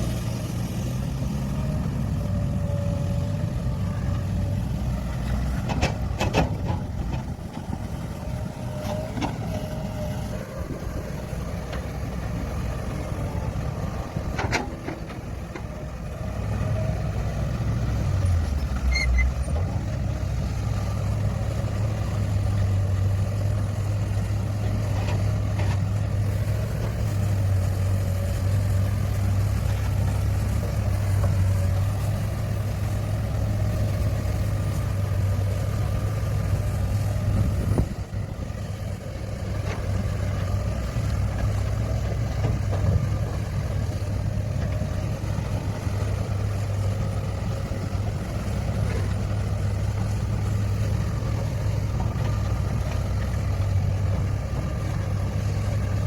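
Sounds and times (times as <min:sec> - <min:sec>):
diesel machinery engine drone: 0:00.0 - 0:56.0.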